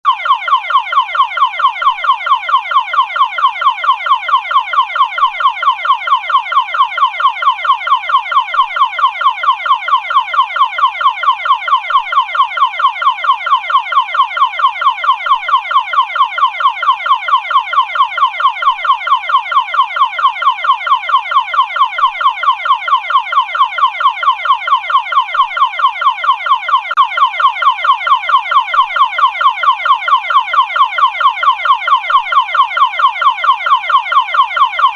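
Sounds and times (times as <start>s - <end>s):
shrill pulsing electronic alarm: 0.1s - 34.9s.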